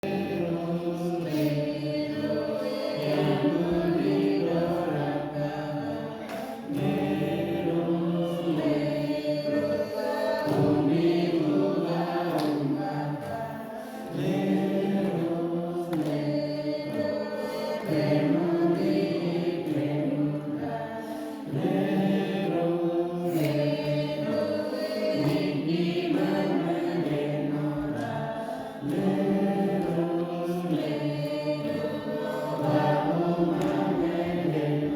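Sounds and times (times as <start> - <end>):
choir singing: 0.0 - 34.9.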